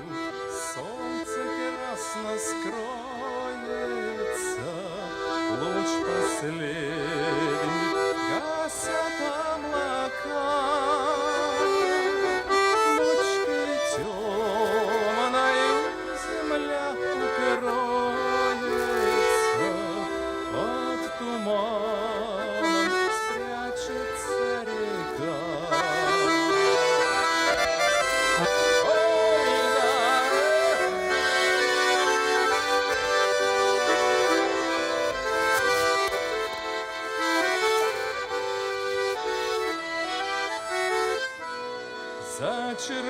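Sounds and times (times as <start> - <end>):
accordion playing folk tune: 0.0 - 43.0.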